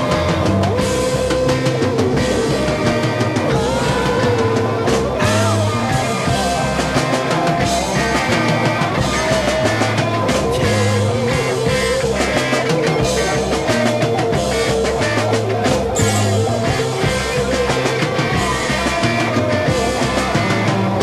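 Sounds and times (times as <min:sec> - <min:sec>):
instrumental psychedelic rock: 0:00.0 - 0:21.0.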